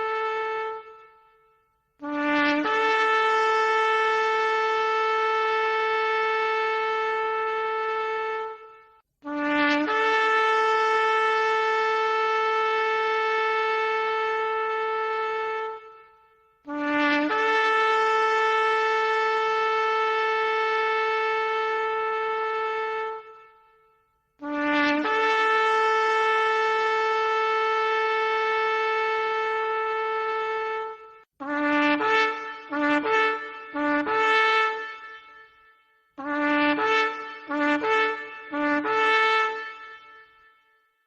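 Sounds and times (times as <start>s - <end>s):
shofar blasts: 0.0s - 40.8s.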